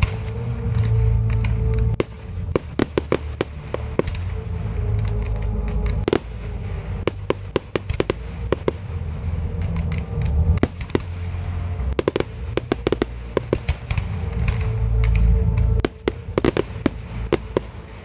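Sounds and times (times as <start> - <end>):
constant low rumble: 0.0 - 18.0.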